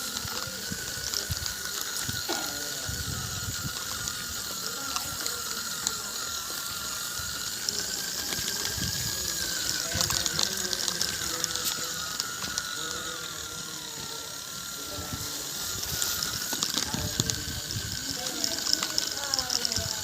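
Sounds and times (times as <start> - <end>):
electric toy motors whining: 0.0 - 20.0
gears rattling and clicking: 0.0 - 20.0.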